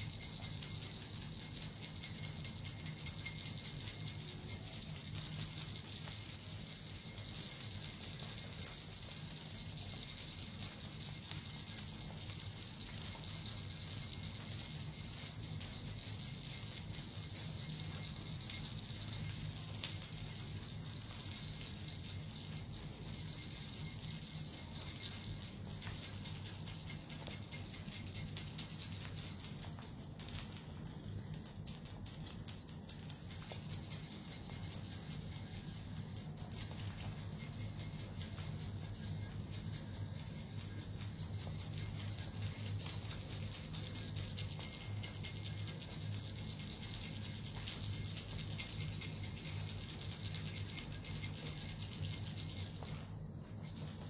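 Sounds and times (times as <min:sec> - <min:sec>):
bells and metal rattle jingling: 0:00.0 - 0:54.0
high steady ringing tone: 0:00.0 - 0:54.0.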